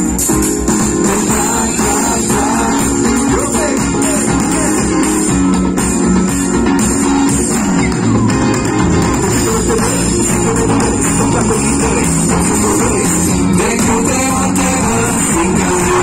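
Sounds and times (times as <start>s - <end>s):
electric bass guitar: 0.0s - 16.0s
keyboards: 0.0s - 16.0s
live band music: 0.0s - 16.0s.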